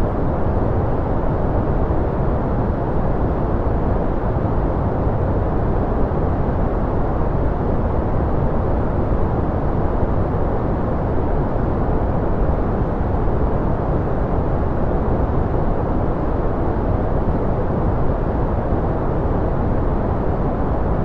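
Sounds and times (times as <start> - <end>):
deep white noise rush: 0.0 - 21.0.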